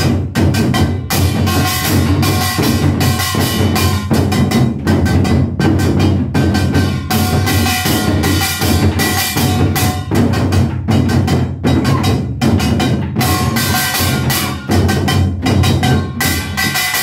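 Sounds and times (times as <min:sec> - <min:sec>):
barrel drums beaten fast: 0:00.0 - 0:17.0
music with held notes: 0:00.0 - 0:17.0.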